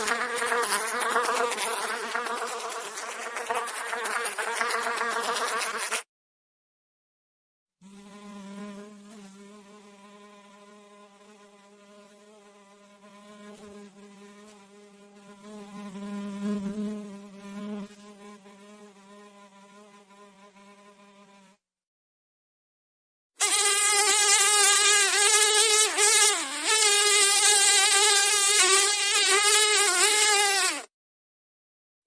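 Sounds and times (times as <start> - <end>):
fly buzzing: 0.0 - 6.1, 7.8 - 21.6, 23.4 - 30.9.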